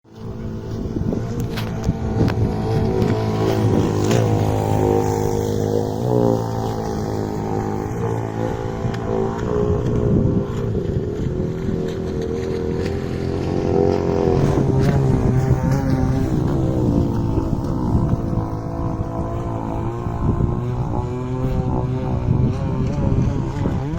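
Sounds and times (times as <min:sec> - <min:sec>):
model boat petrol engine: 0:00.1 - 0:23.9.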